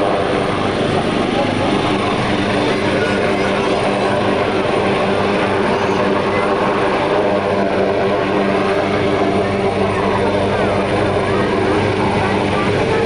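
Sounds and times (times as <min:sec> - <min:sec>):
helicopter hovering: 0:00.0 - 0:13.0.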